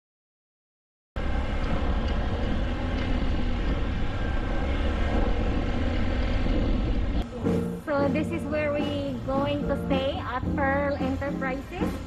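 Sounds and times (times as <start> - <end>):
motorbike engine running: 1.2 - 12.0.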